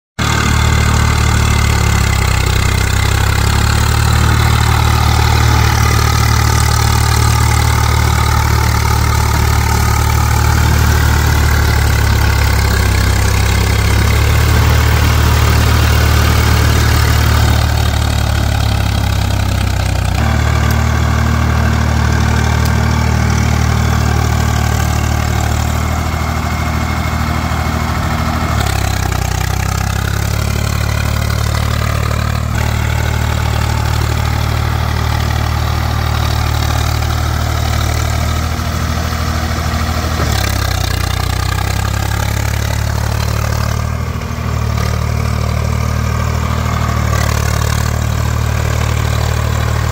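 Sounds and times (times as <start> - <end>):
tractor diesel engine running: 0.2 - 49.9.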